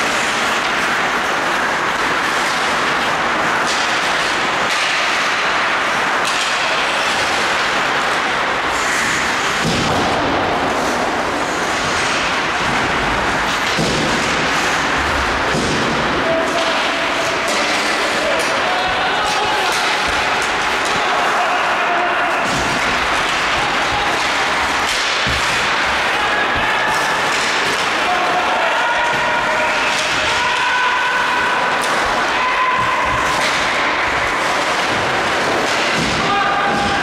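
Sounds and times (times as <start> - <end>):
noisy ice rink hall ambience: 0.0 - 37.0.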